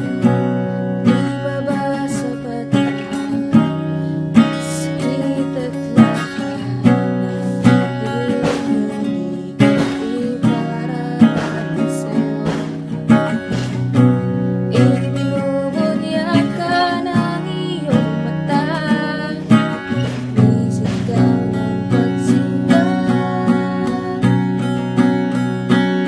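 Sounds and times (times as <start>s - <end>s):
acoustic guitar strumming chords: 0.0s - 26.0s
woman singing: 0.0s - 26.0s.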